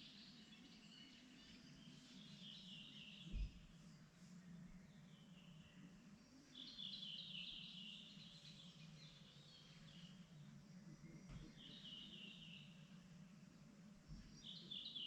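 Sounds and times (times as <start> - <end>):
faint songbird chirping: 0.0 - 15.0.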